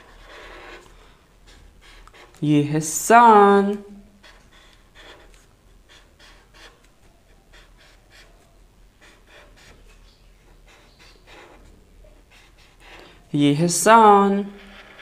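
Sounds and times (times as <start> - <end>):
marker scratching on paper: 0.0 - 2.5, 4.1 - 13.3, 13.9 - 15.0.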